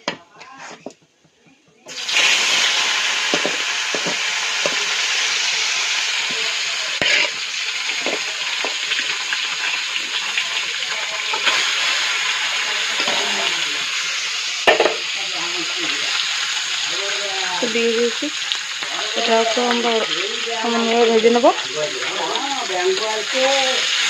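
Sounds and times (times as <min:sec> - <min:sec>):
fish frying in hot oil: 0:01.9 - 0:24.0.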